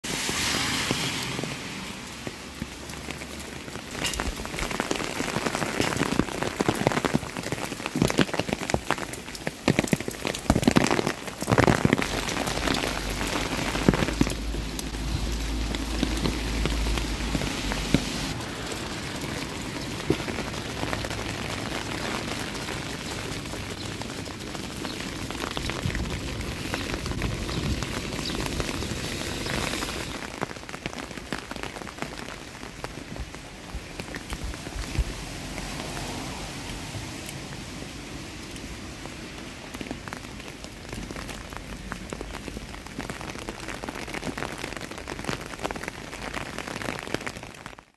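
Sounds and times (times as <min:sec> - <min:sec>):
rain on hard surfaces: 0:00.0 - 0:47.9.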